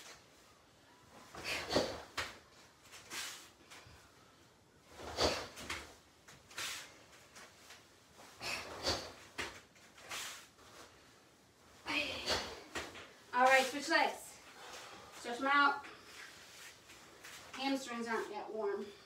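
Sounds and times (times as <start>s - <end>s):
bare feet on foam mats: 0.0s - 19.0s
uniforms swishing and rustling: 0.0s - 19.0s.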